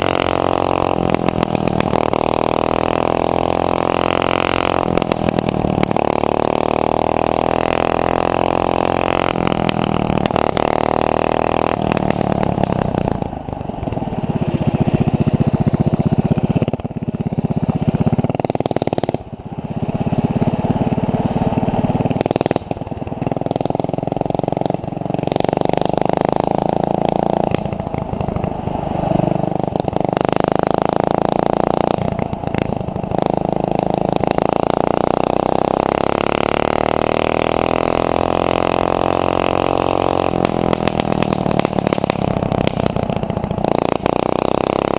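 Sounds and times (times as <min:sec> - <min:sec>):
mini bike engine revving: 0:00.0 - 0:44.9.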